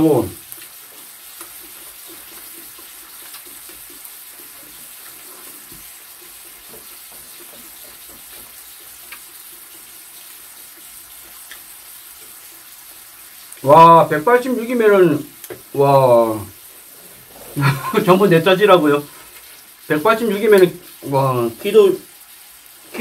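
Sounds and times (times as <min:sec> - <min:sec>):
meat sizzling on a grill pan: 0:00.0 - 0:23.0.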